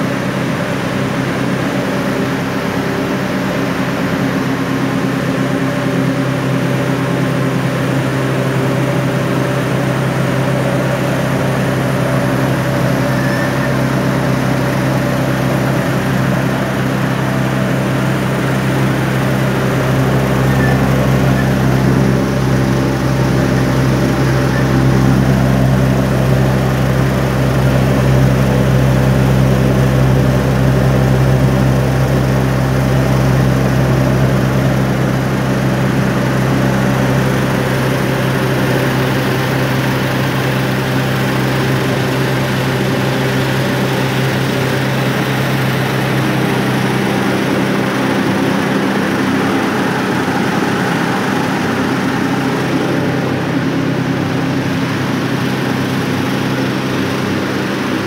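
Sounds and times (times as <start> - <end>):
electric motors and grinding mill: 0.0 - 58.0
low machinery rumble: 0.0 - 58.0.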